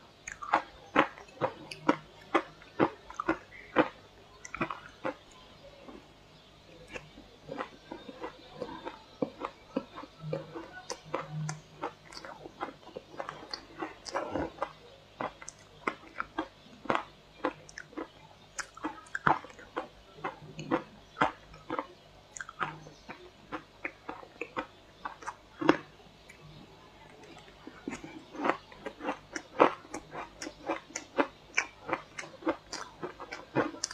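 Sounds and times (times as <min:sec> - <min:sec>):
crunching and chewing shaved ice: 0:00.2 - 0:06.0, 0:06.7 - 0:33.9.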